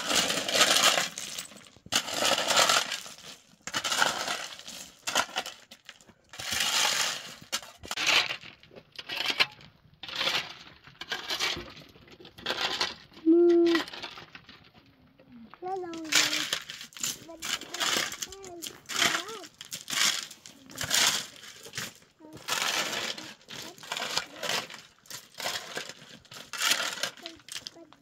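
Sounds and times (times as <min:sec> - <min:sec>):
gritty scraping in stone and earth: 0:00.0 - 0:28.0.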